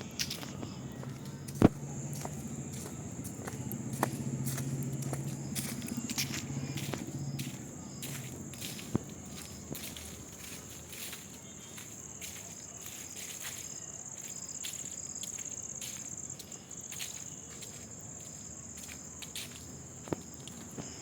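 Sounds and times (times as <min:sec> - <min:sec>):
high-pitched insect trill: 0:00.0 - 0:20.9.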